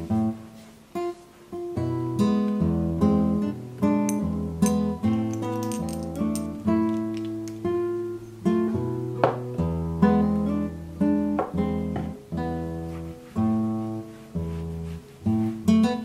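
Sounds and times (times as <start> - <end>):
solo acoustic guitar: 0.0 - 16.0.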